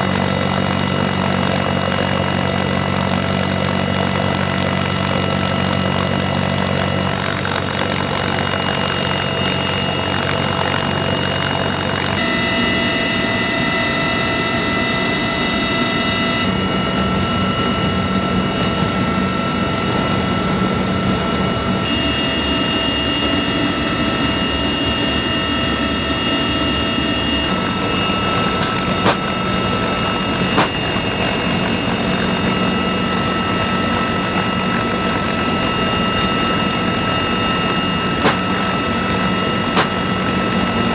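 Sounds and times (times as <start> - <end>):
helicopter engines and rotor drone: 0.0 - 40.9
high whining tones: 0.0 - 40.9.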